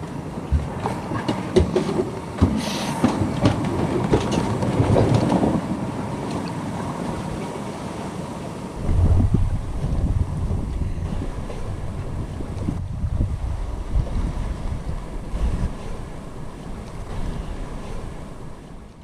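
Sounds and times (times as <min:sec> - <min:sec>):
boat knocking and creaking: 0:00.0 - 0:07.5, 0:08.8 - 0:19.0
water rushing past hull: 0:00.0 - 0:19.0.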